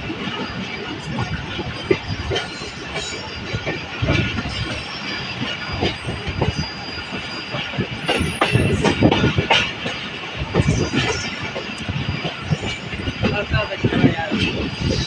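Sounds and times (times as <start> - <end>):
train wheels rumbling: 0.0 - 15.0
wheels clattering over rail joints: 0.0 - 15.0
high squeal: 0.1 - 15.0.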